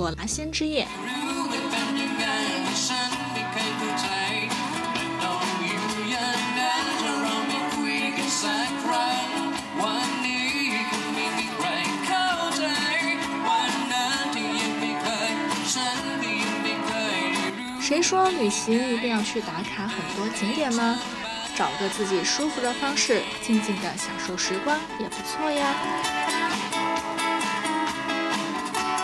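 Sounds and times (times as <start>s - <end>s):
drum kit: 0.0s - 29.0s
guitar: 0.0s - 29.0s
person singing: 0.9s - 26.0s.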